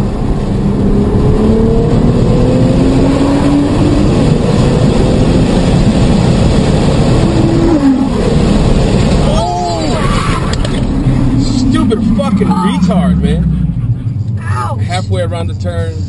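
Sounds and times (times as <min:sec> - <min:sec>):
car engine accelerating hard: 0:00.0 - 0:16.0
road and wind noise: 0:00.0 - 0:16.0.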